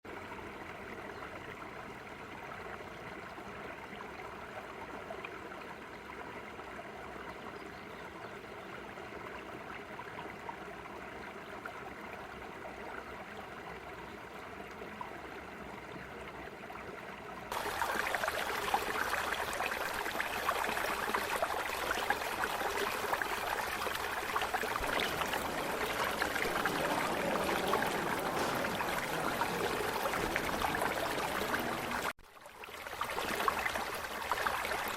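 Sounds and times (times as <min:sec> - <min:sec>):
water rushing and trickling: 0:00.1 - 0:34.9.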